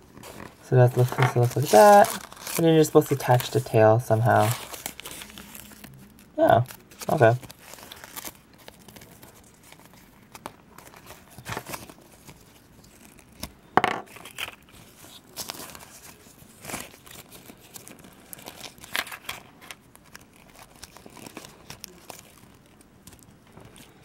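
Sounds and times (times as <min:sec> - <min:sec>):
plastic crinkling and rustling: 0:00.0 - 0:24.0.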